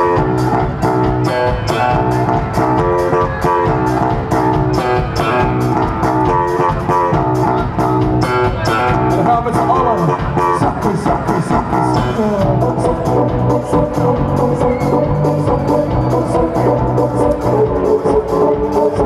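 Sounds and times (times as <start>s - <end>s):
drums steady beat: 0.0s - 19.0s
electric guitar: 0.0s - 19.0s
live band playing: 0.0s - 19.0s.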